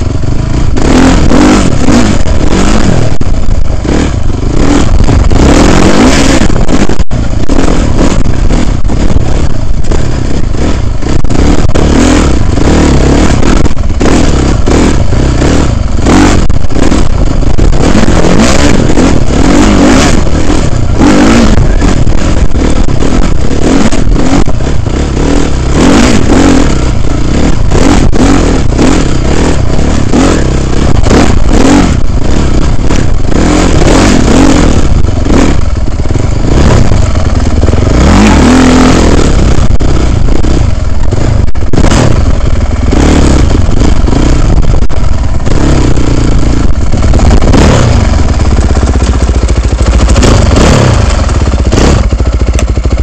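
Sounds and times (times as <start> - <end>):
dirt bike engine revving: 0.0 - 53.0
wind noise: 0.0 - 53.0.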